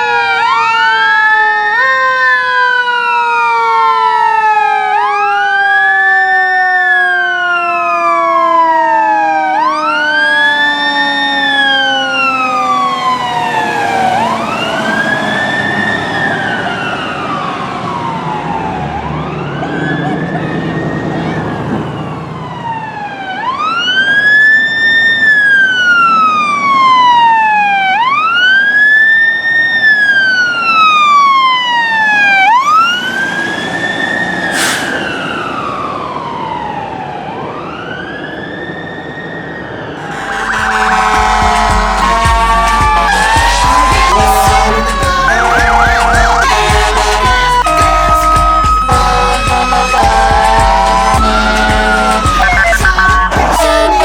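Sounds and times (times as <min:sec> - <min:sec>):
fire truck engine rumble: 0:00.0 - 0:54.0
lower siren tone: 0:00.0 - 0:54.0
siren wailing: 0:00.0 - 0:54.0.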